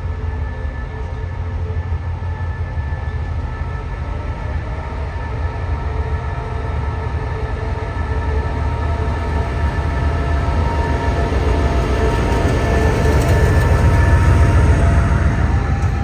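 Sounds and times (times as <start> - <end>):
train low rumble: 0.0 - 16.0
whining tones: 0.0 - 16.0.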